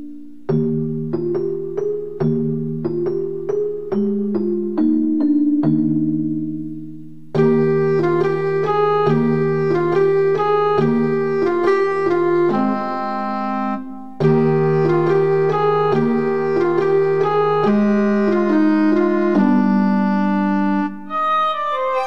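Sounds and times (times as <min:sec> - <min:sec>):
organ-like keyboard music: 0:00.0 - 0:22.0.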